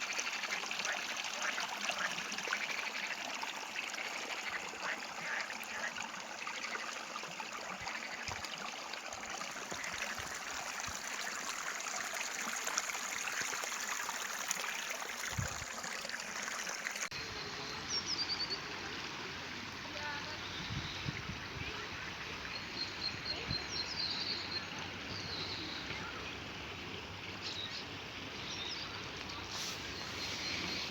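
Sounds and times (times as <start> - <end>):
stream trickling: 0.0 - 30.9.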